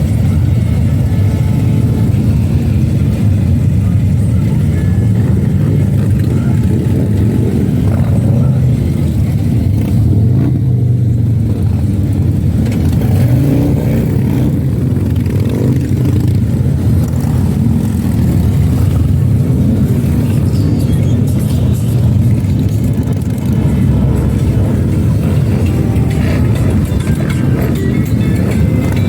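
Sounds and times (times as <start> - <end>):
motorcycle engines rumbling: 0.0 - 29.0.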